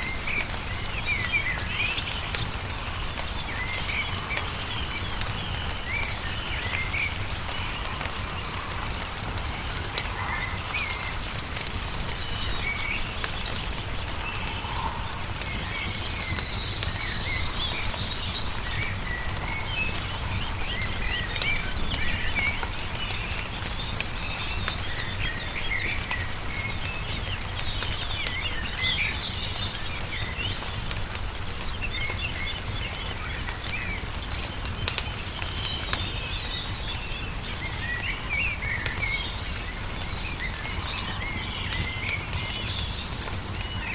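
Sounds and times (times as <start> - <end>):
songbirds chirping: 0.0 - 43.9
wood fire crackling: 0.0 - 43.9.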